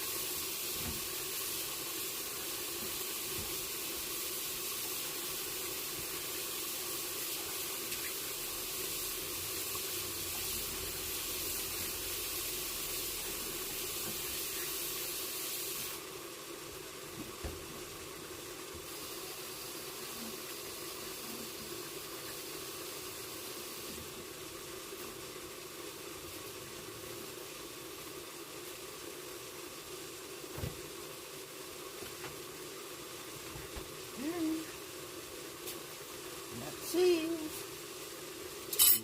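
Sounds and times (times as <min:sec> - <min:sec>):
pan steaming hiss: 0:00.0 - 0:39.0.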